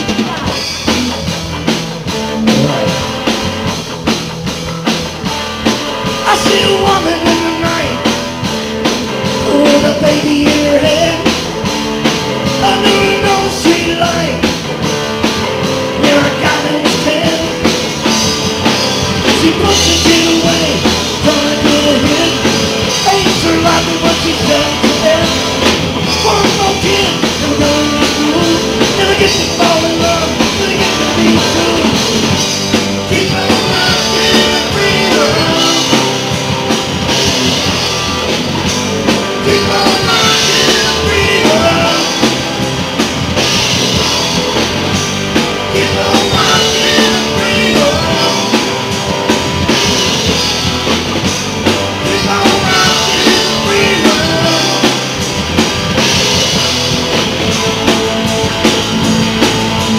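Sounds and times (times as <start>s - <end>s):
drum kit: 0.0s - 59.9s
electric guitars: 0.0s - 59.9s
lead part into a microphone: 0.0s - 59.9s.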